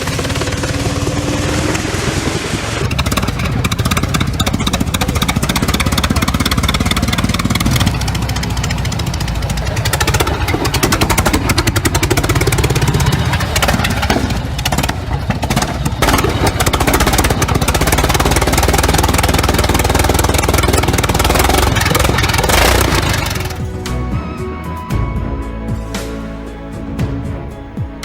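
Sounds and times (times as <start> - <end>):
large engine running: 0.0 - 28.0.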